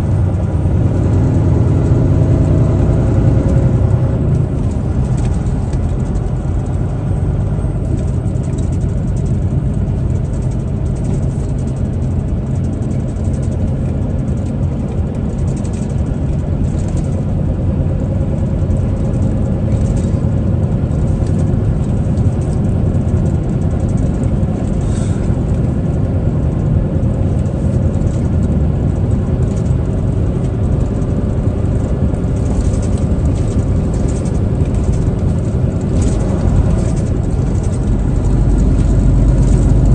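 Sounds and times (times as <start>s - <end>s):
road noise: 0.0s - 39.9s
truck engine driving: 0.0s - 39.9s.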